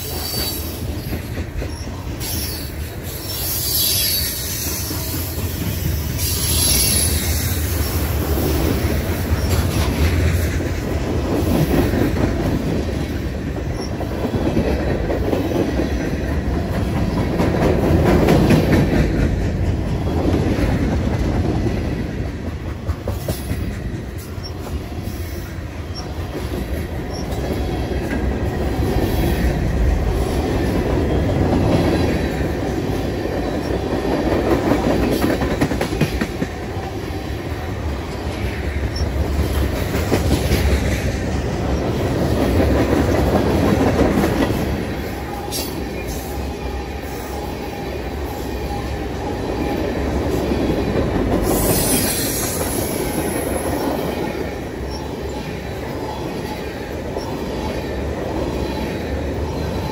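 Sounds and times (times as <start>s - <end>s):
train wheels clattering on track: 0.0s - 59.9s.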